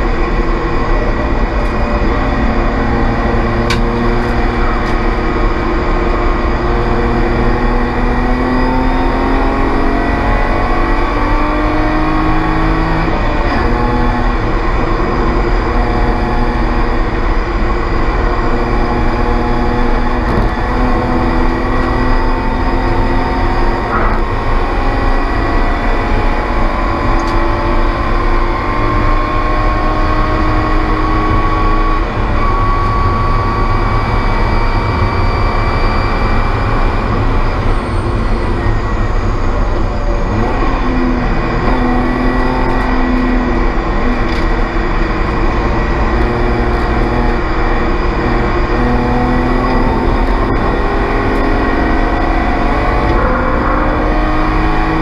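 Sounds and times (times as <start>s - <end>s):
race car engine revving hard: 0.0s - 55.0s.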